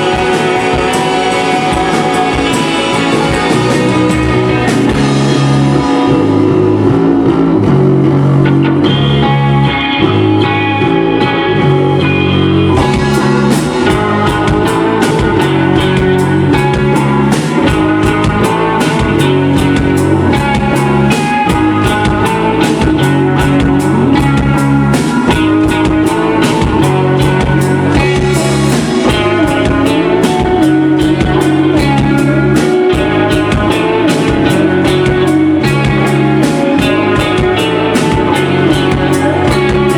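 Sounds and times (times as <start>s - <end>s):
drums and cymbals: 0.0s - 7.0s, 12.8s - 39.9s
bass guitar: 0.0s - 39.9s
electric guitars: 0.0s - 39.9s.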